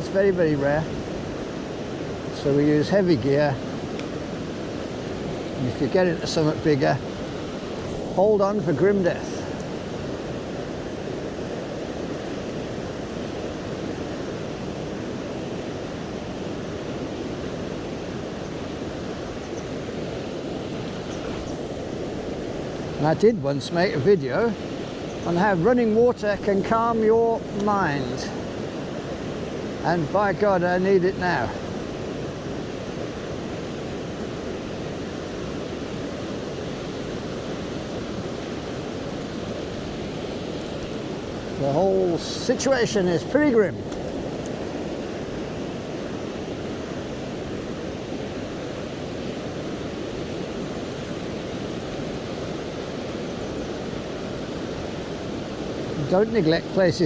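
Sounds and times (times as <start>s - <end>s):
rushing flooded river: 0.0s - 57.0s.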